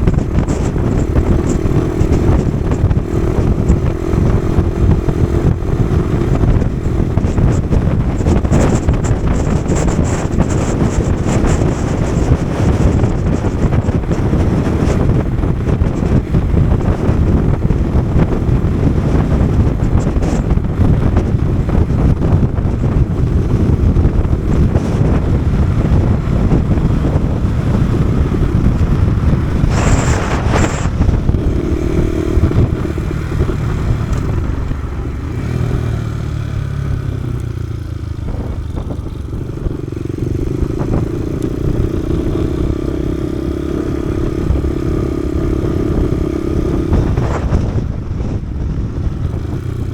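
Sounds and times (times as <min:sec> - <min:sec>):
motorcycle engine running: 0:00.0 - 0:49.9
wind buffeting microphone: 0:00.0 - 0:49.9.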